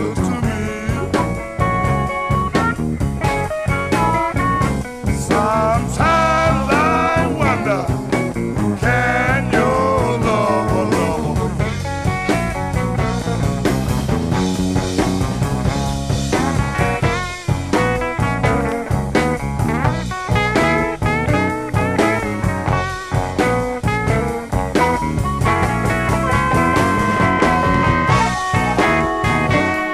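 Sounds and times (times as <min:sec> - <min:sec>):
bending guitar lead line: 0:00.0 - 0:29.9
electric blues band playing: 0:00.0 - 0:29.9.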